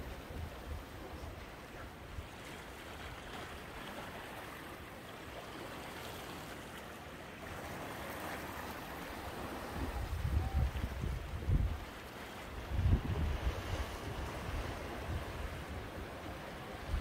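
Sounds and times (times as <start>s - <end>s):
waves washing among rocks: 0.0s - 17.0s.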